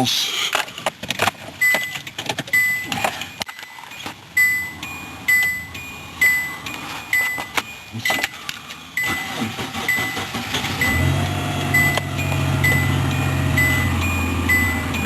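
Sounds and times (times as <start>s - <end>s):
car engine idling: 0.1s - 15.0s
car starter cranking: 0.6s - 15.0s
car warning chime dinging: 1.6s - 15.0s.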